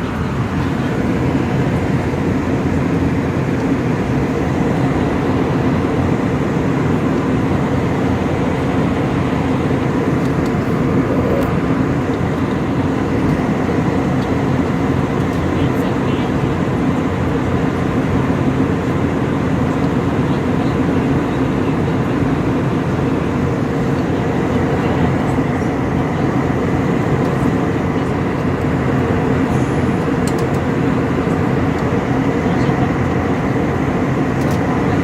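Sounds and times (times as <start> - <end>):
airliner cabin drone: 0.0 - 35.0.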